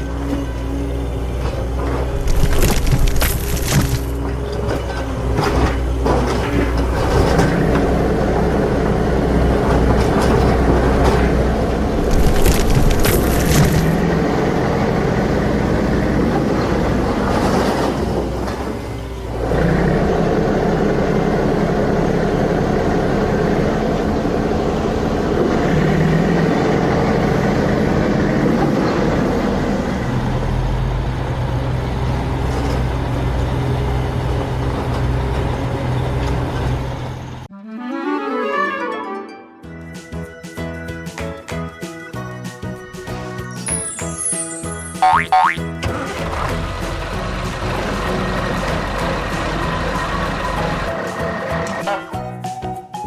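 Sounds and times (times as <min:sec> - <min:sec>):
heavy machinery engine running: 0:00.0 - 0:37.5, 0:45.8 - 0:51.8.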